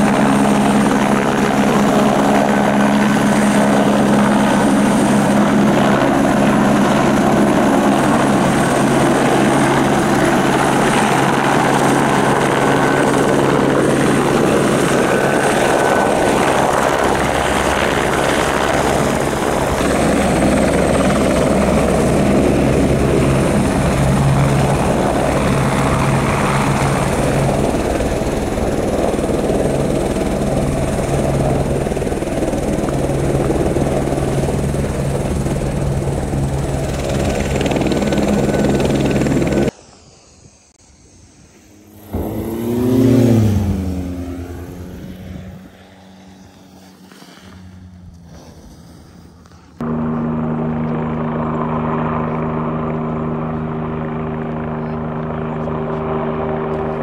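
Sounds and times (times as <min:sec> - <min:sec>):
propeller plane engine drone: 0:00.0 - 0:57.0.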